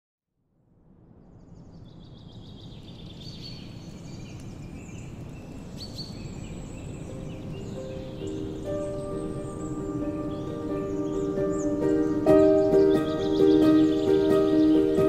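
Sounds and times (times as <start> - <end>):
birds chirping: 1.4 - 15.0.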